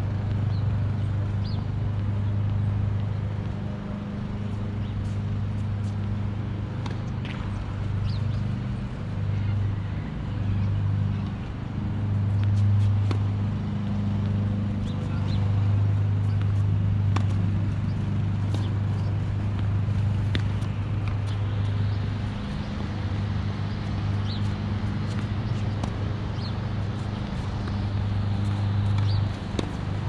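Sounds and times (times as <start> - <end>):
steady low hum: 0.0 - 30.0
tennis balls being struck: 0.3 - 9.6, 10.2 - 30.0.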